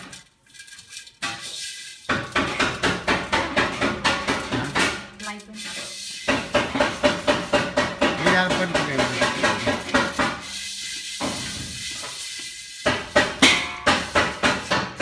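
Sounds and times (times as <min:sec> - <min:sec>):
tea leaves tossed in metal pan: 0:00.0 - 0:15.0.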